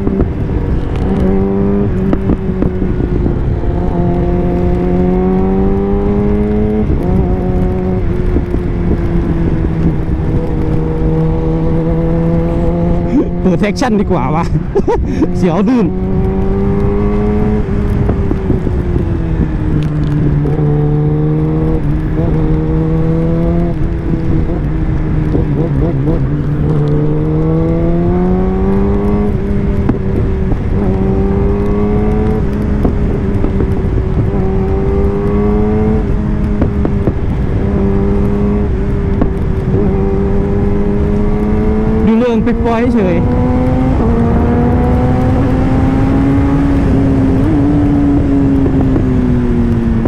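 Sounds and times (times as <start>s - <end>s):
motorcycle engine running: 0.0s - 50.0s
wind rumble on microphone: 0.0s - 50.0s.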